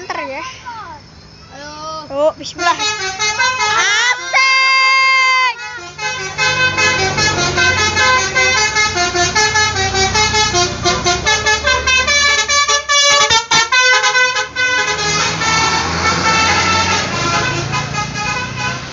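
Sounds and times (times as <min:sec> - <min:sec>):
bus engine hum: 0:00.0 - 0:18.9
musical bus horns: 0:02.4 - 0:18.9.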